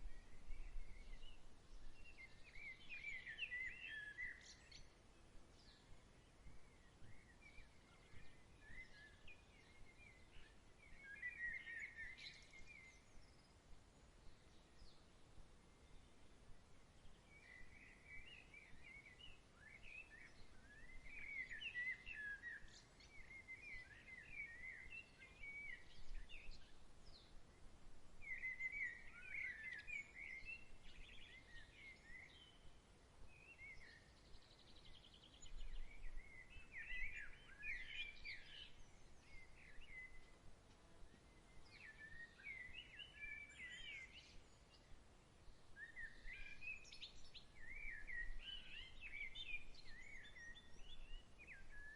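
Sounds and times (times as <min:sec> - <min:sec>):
songbirds twittering: 0:00.0 - 0:51.9.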